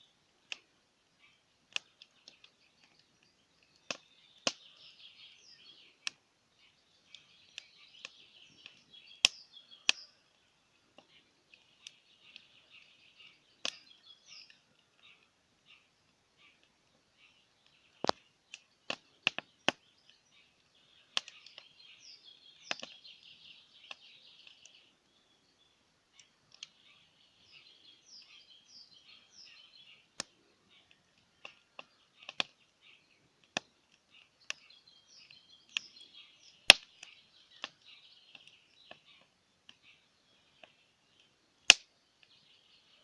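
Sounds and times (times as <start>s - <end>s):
burning wood popping: 0.0s - 25.2s, 26.1s - 42.6s
birds chirping: 0.0s - 43.0s
wood fire crackling: 0.0s - 43.0s.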